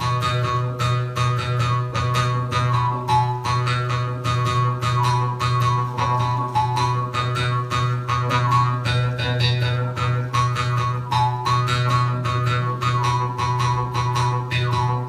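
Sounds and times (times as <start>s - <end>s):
plucked string notes: 0.0s - 15.0s.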